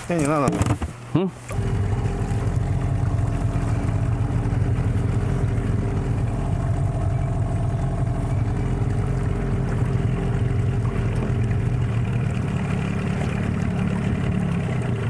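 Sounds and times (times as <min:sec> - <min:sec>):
outboard motor running: 0:01.5 - 0:15.0.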